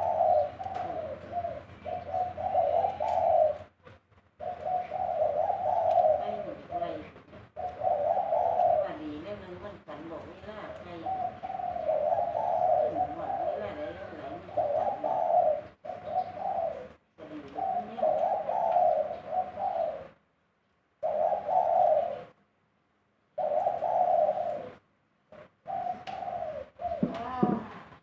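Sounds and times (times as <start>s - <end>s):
dove cooing: 0.0s - 20.3s, 21.0s - 22.4s, 23.3s - 28.0s.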